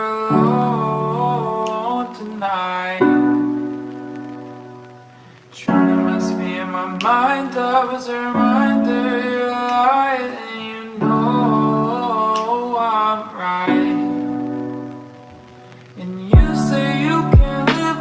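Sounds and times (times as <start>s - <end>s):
person singing: 0.0s - 4.4s, 5.5s - 14.8s, 15.9s - 18.0s
piano chords: 0.0s - 18.0s.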